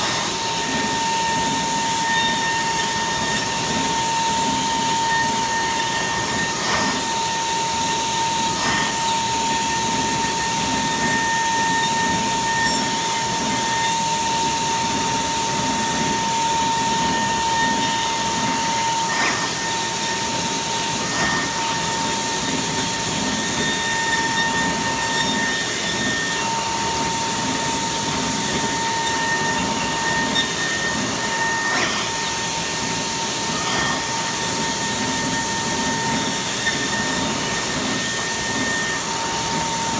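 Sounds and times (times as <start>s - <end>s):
spindle high whine: 0.0s - 39.9s.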